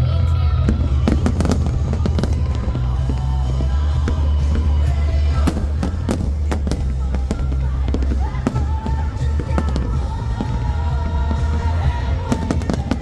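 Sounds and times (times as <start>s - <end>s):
deep rumble of booms: 0.0s - 13.0s.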